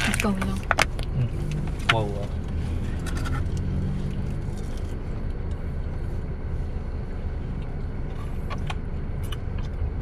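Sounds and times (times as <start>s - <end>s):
car cabin hum: 0.0s - 10.0s.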